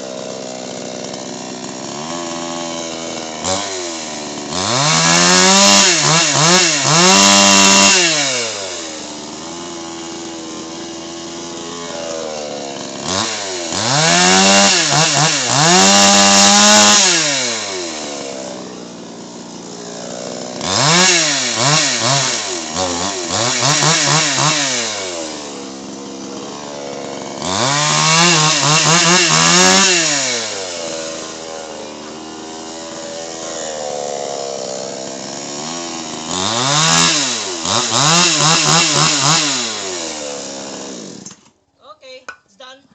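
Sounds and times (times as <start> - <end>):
chainsaw revving and idling: 0.0 - 42.8.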